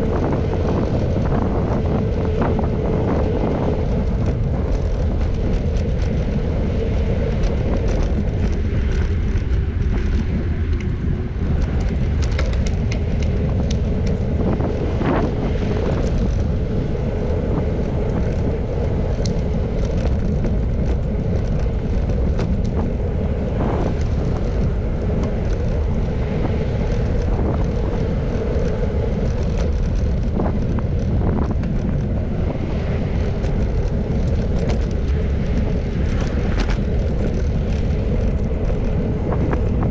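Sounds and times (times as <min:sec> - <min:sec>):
constant hum: 0:00.0 - 0:39.9
road noise: 0:00.0 - 0:39.9
wind rushing over microphone: 0:00.0 - 0:39.9.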